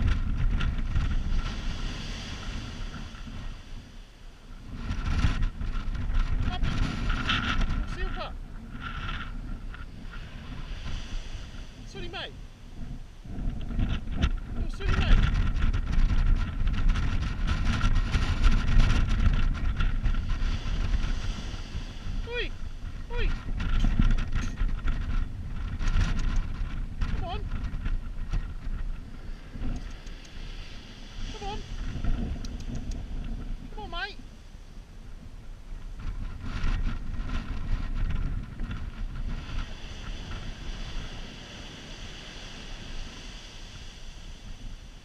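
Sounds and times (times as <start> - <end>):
surf washing on a beach: 0.0 - 45.0
wind buffeting the microphone: 0.0 - 45.0.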